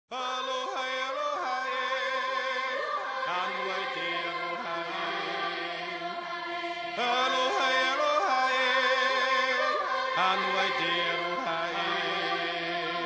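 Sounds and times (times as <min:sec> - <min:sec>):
choir chanting: 0:00.1 - 0:13.0.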